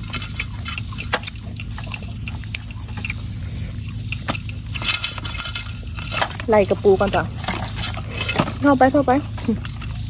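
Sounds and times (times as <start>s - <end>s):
crunching food close to microphone: 0.0s - 10.0s
low hum: 0.0s - 10.0s.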